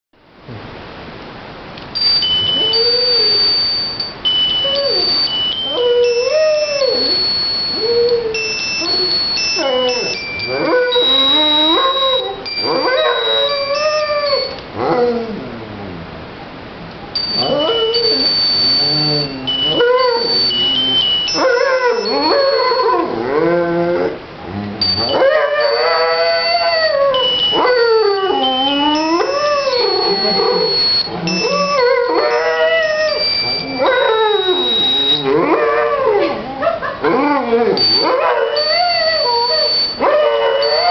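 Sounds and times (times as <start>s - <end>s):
high electronic tone melody: 2.0s - 14.6s, 17.1s - 24.1s, 24.8s - 36.0s, 37.7s - 40.9s
steady high-pitched notes: 2.0s - 14.7s, 17.1s - 24.0s, 24.8s - 36.0s, 37.7s - 40.9s
dog howling: 2.6s - 3.6s, 4.6s - 15.9s, 17.3s - 40.9s.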